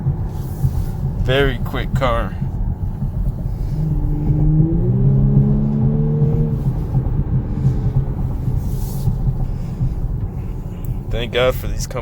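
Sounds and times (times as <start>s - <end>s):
car engine accelerating: 0.0s - 12.0s
low road rumble: 0.0s - 12.0s.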